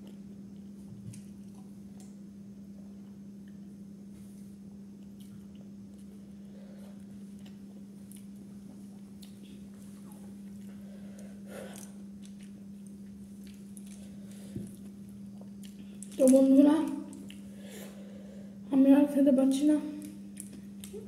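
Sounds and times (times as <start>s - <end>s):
quiet chewing and clicks: 0.0s - 2.2s, 2.9s - 3.7s, 4.3s - 17.5s, 19.9s - 21.0s
low steady hum: 0.0s - 21.0s.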